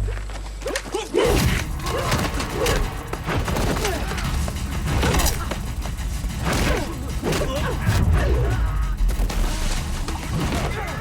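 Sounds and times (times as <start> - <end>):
gunfire: 1.3 - 11.0
sharp hits: 1.3 - 11.0.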